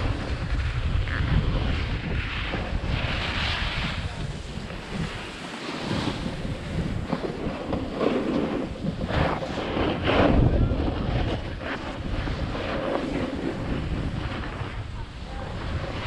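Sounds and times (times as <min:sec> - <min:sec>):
snowboard edge scraping snow: 0:00.0 - 0:16.0
wind rushing over microphone: 0:00.0 - 0:16.0.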